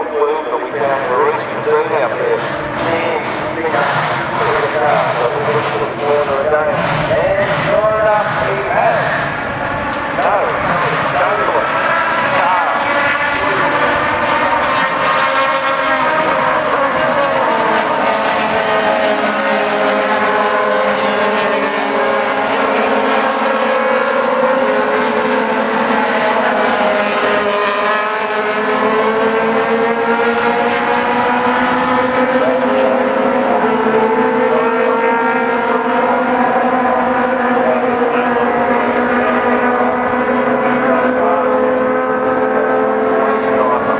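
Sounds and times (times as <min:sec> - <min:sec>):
racing car engines: 0:00.0 - 0:43.9.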